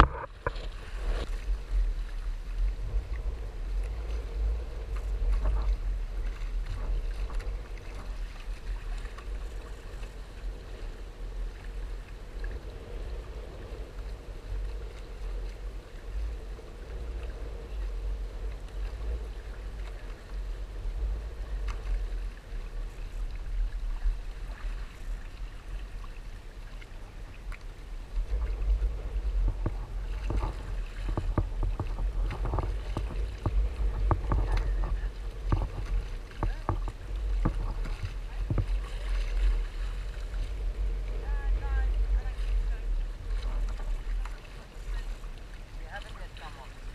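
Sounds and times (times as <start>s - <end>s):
water splashing against hull: 0.0s - 46.9s
wind buffeting microphone: 0.0s - 46.9s.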